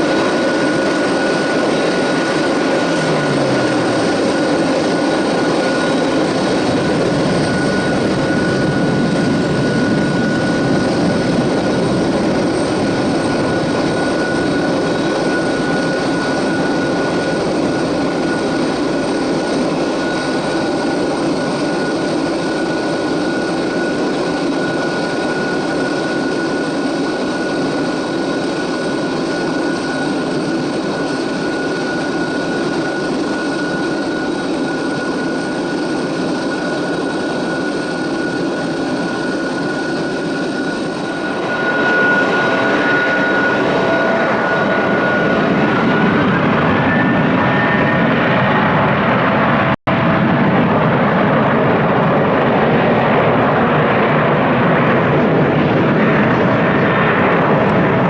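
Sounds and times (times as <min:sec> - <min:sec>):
jet engines roaring with whine: 0:00.0 - 0:58.0.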